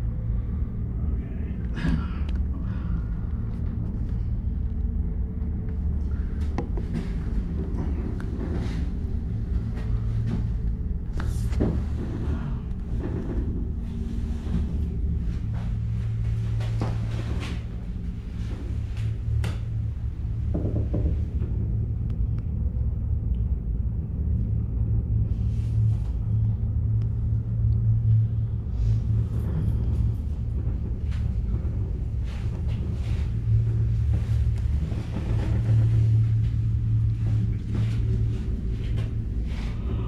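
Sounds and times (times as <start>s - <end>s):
gondola cabin rumble: 0.0s - 40.0s
faint clicks and creaks: 1.5s - 23.6s, 25.7s - 40.0s.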